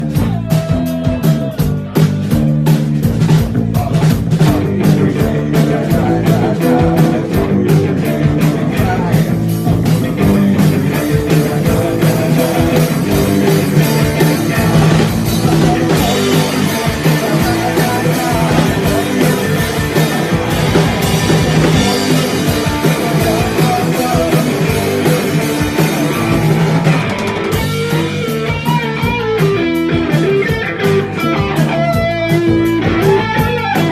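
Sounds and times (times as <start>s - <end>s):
rock song with guitar: 0.0s - 33.9s.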